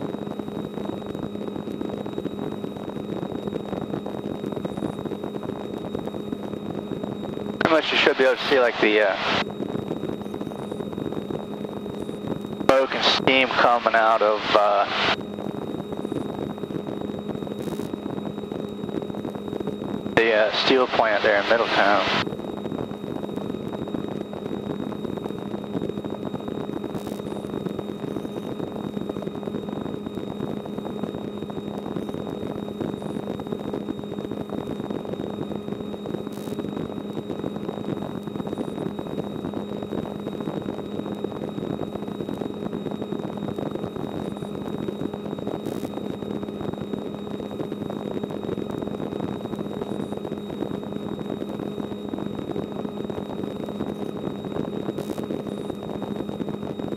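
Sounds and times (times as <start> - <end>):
helicopter engine and rotor drone: 0.0 - 56.9
thin high whine: 0.0 - 56.9.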